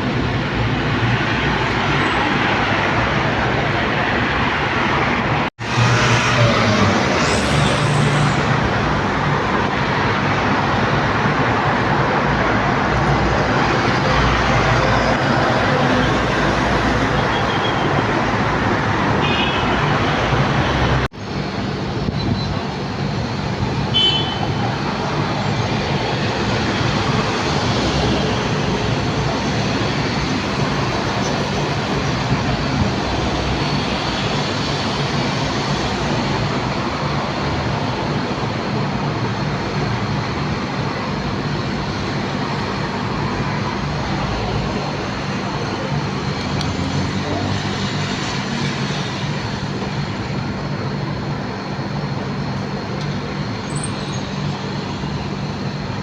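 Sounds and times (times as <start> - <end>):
loud engine rumble with hiss: 5.4 - 56.0.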